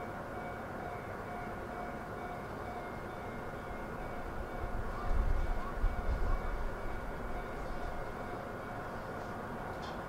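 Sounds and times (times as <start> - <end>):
train equipment humming and whining: 0.0 - 10.0.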